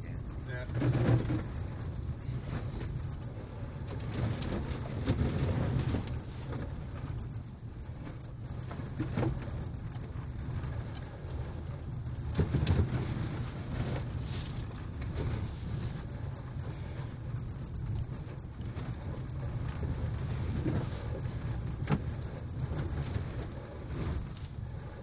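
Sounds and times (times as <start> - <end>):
road rumble inside car: 0.0 - 25.0.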